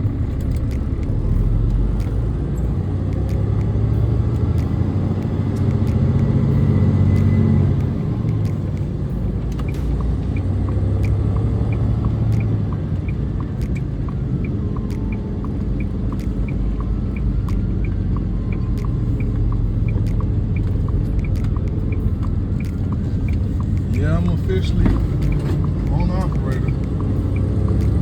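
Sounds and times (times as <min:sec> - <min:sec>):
truck engine and road rumble: 0:00.0 - 0:28.0
turn signal ticking: 0:00.0 - 0:28.0.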